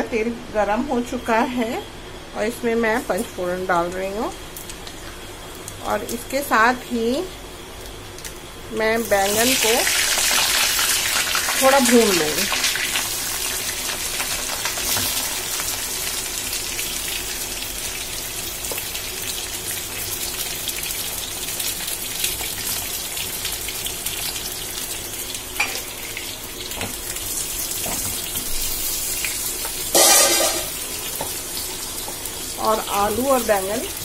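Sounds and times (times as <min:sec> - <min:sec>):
vegetables sizzling in hot oil: 0:02.4 - 0:34.0.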